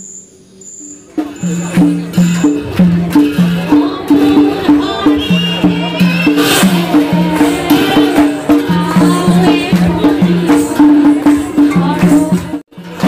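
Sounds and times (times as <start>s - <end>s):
hand cymbals clashing: 0.1s - 13.0s
wavering melody: 0.6s - 13.0s.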